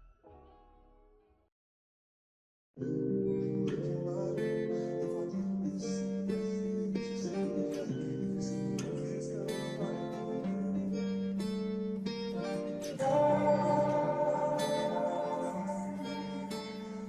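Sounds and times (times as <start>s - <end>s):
acoustic guitar playing chords: 2.8s - 17.0s.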